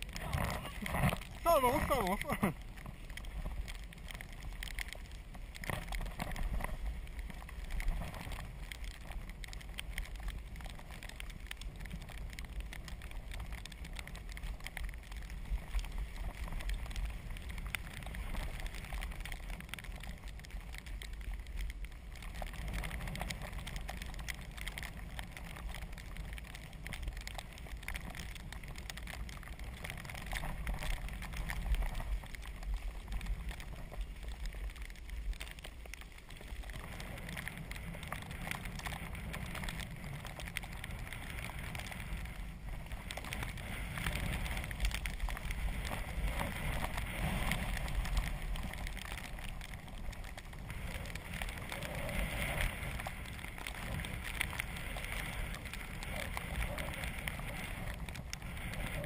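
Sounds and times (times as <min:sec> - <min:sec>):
small clicks: 0:00.0 - 0:59.0.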